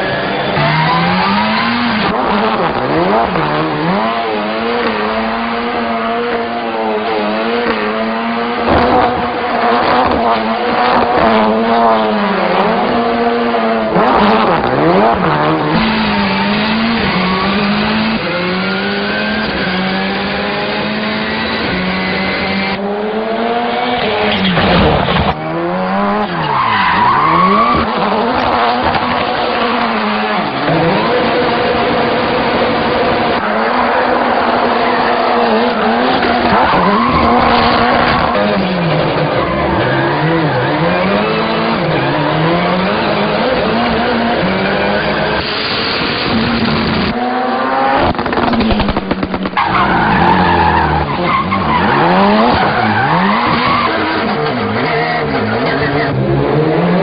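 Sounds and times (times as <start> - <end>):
car engine revving: 0.0 - 57.0
tyres skidding and squealing: 0.0 - 57.0.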